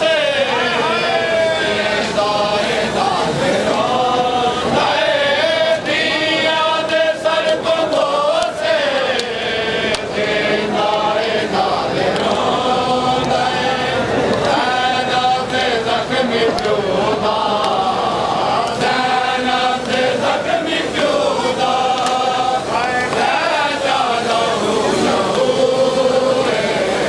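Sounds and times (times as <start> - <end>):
men chanting a lament: 0.0 - 27.0.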